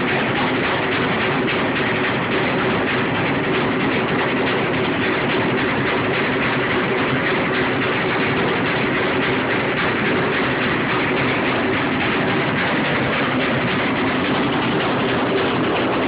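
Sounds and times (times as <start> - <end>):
washing machine whirring: 0.0 - 16.0.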